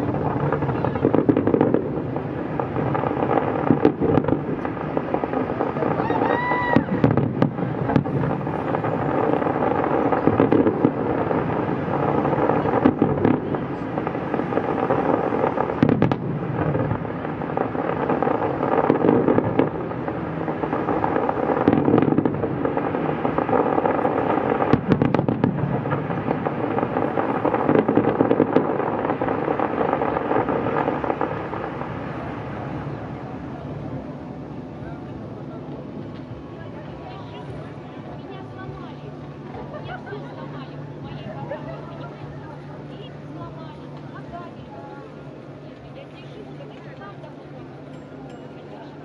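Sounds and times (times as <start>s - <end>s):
fireworks crackling: 0.0s - 49.0s.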